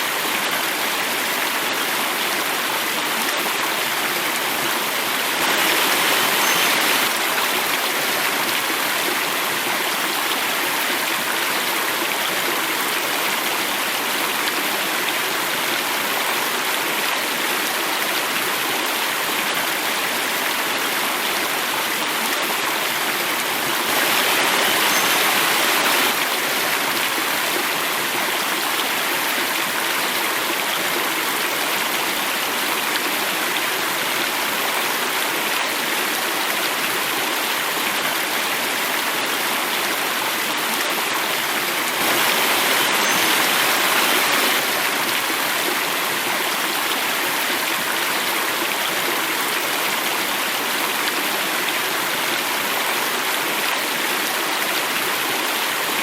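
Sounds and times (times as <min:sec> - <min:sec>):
water cascading: 0:00.0 - 0:56.0.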